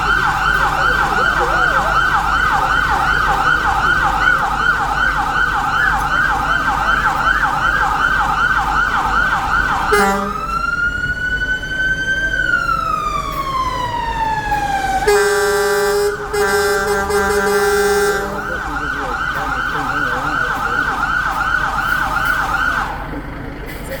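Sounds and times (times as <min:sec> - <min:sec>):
fire engine siren: 0:00.0 - 0:24.0.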